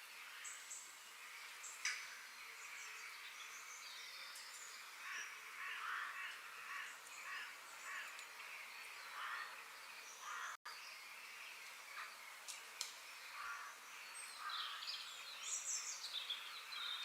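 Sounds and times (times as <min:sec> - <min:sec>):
birds chirping: 0:00.0 - 0:17.0
steady background hiss: 0:00.0 - 0:17.0
harsh bird calls: 0:00.2 - 0:17.0.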